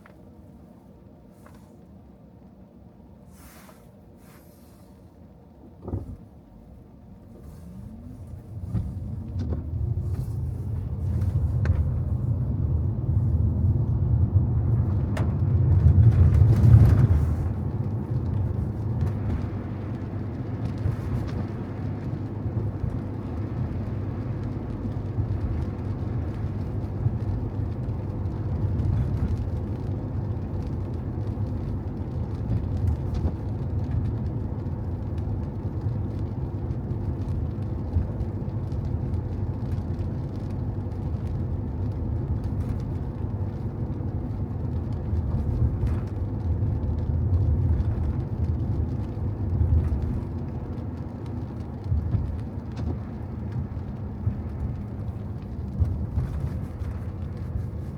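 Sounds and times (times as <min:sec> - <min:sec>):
car engine and tyres rumbling: 0:00.0 - 0:57.9.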